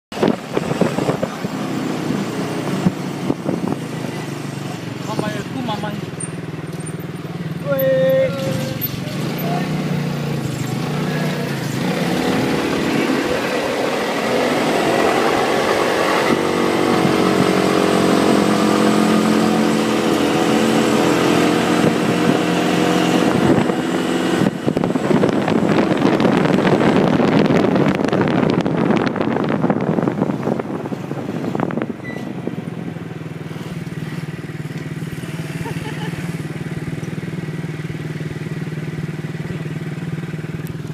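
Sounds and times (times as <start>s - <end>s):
wind and road noise: 0.1s - 40.9s
small vehicle engine running: 0.2s - 40.9s.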